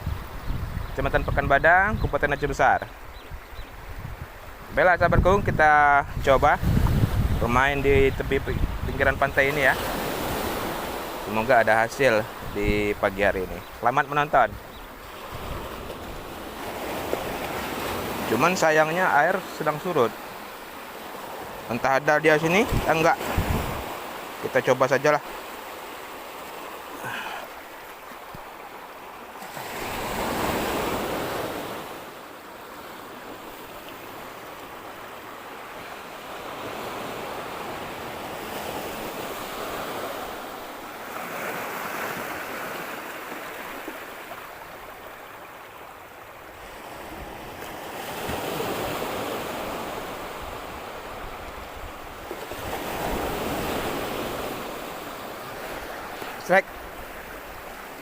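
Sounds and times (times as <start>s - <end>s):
sea waves washing onto beach: 0.0s - 58.0s.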